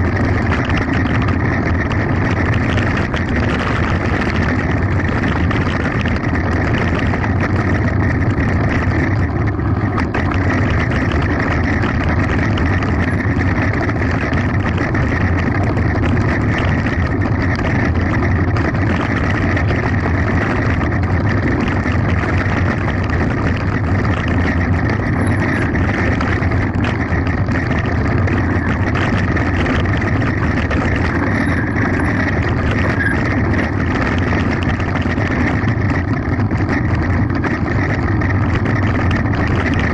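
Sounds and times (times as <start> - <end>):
bike rattling: 0.0 - 39.9
tyres running over gravel: 0.0 - 39.9
wind noise on microphone: 0.0 - 39.9.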